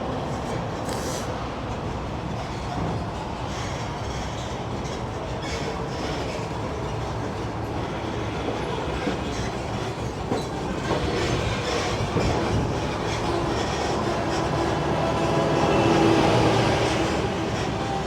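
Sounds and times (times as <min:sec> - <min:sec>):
tram cars rattling: 0:00.0 - 0:18.0.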